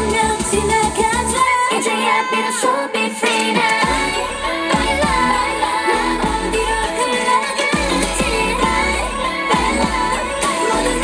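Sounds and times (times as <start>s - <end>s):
dance-pop song over sound system: 0.0s - 11.0s
female vocals: 0.0s - 11.0s.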